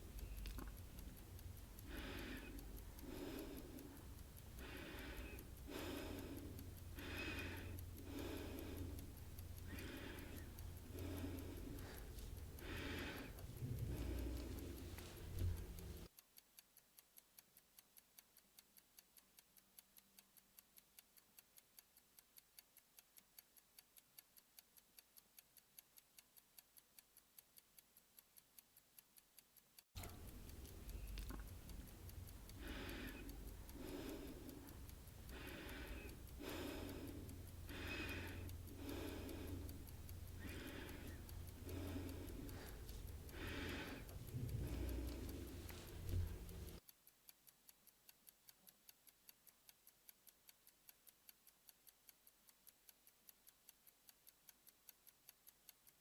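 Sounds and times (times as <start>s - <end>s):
faint quick clock ticks: 0.0s - 56.0s
loud slow clock ticks: 0.0s - 56.0s.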